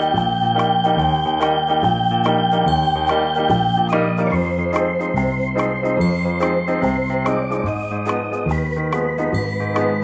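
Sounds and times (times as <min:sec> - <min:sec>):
stepping bass line: 0:00.0 - 0:10.0
sustained keyboard chords: 0:00.0 - 0:10.0.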